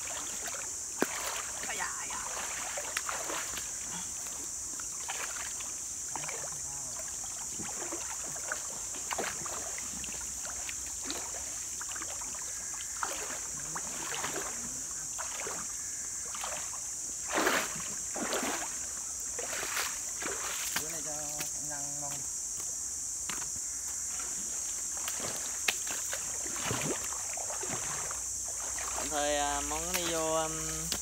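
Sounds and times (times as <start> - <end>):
feet splashing through stream: 0.0 - 22.2, 23.3 - 31.0
steady high-pitched hiss: 0.0 - 31.0.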